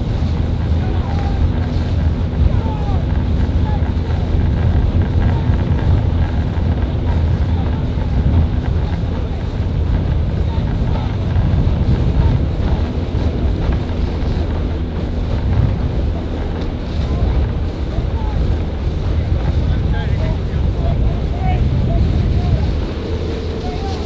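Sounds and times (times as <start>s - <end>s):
outboard engine droning: 0.0s - 24.0s
wind buffeting microphone: 0.0s - 24.0s.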